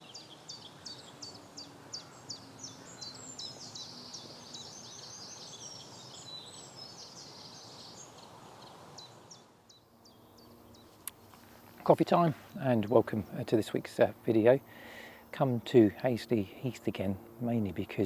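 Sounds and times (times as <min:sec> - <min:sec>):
faint outdoor hiss: 0:00.0 - 0:18.0
small birds calling: 0:00.0 - 0:18.0.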